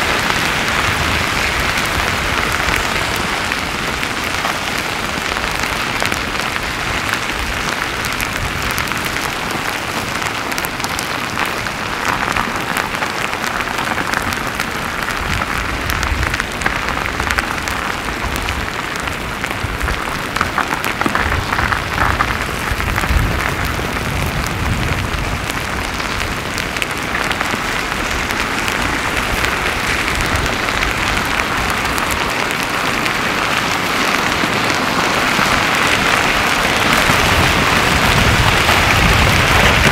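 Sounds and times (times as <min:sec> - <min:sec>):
lava crust crackling: 0:00.0 - 0:39.9.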